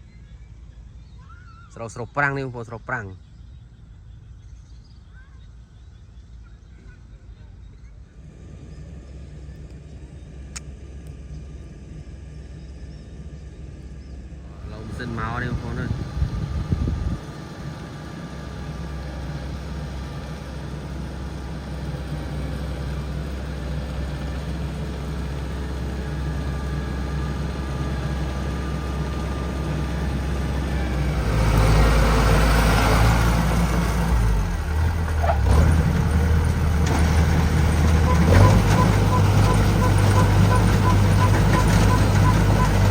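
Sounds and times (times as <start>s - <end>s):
combine harvester engine running: 8.0s - 42.9s.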